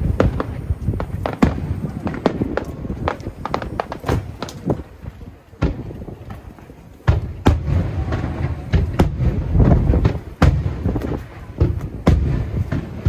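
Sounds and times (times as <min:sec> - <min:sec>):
firework bangs: 0:00.0 - 0:13.0
low rumble of firework bursts: 0:00.0 - 0:13.0.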